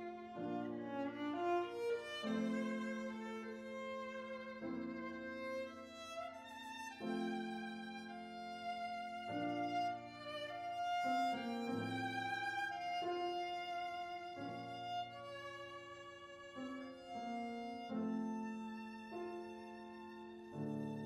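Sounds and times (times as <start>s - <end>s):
piano chords: 0.0s - 19.7s
viola playing slow melody: 0.0s - 21.0s.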